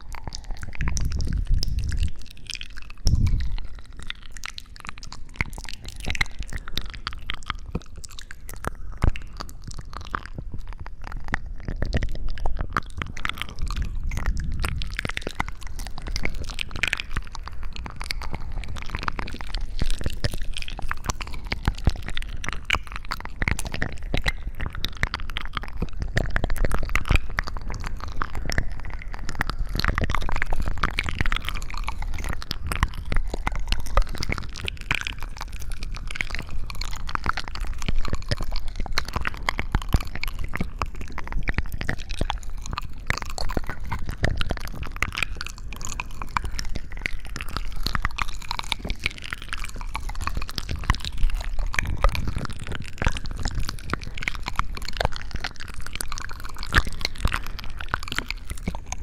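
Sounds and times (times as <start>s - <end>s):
wet crackling and crunching clicks: 0.0s - 59.0s.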